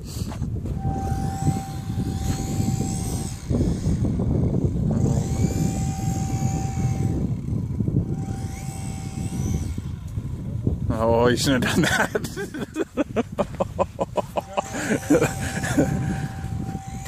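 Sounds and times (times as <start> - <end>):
wind buffeting microphone: 0.0 - 17.0
model plane motor whining: 0.1 - 13.0, 14.0 - 17.0.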